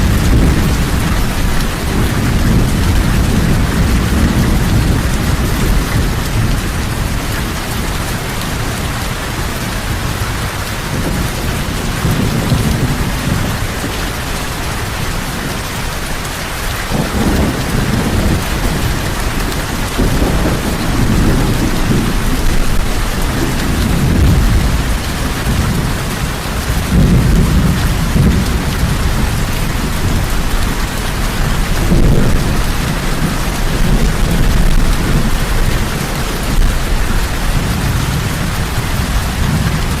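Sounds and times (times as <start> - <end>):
heavy rain falling: 0.0 - 40.0
thunder rumbling: 0.0 - 40.0.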